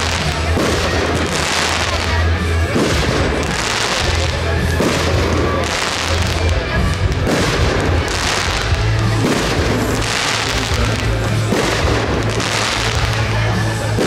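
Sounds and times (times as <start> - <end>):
fireworks booming and crackling: 0.0 - 14.0
music with low bass line: 0.0 - 14.0.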